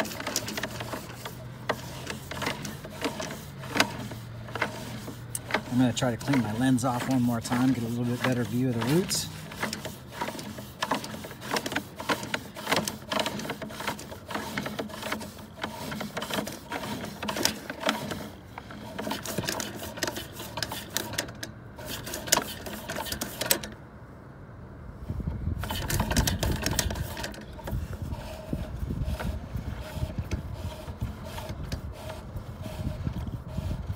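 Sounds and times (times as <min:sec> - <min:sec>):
cable reel clicking and rattling: 0:00.0 - 0:23.8, 0:25.6 - 0:33.9.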